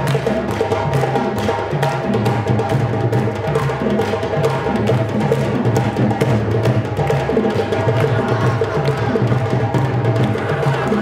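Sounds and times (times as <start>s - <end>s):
hand drums playing rhythm: 0.0s - 11.0s.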